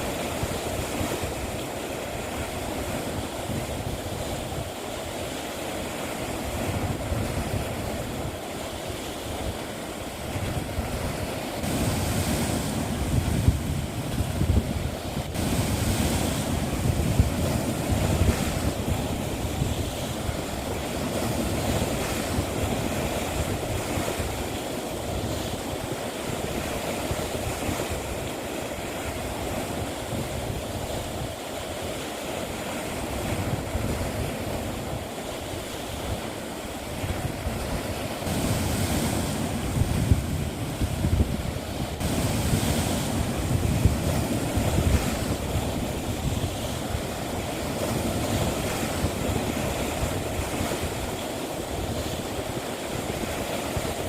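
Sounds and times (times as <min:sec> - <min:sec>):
sea waves breaking on shore: 0:00.0 - 0:54.0
wind rumbling on microphone: 0:00.0 - 0:54.0.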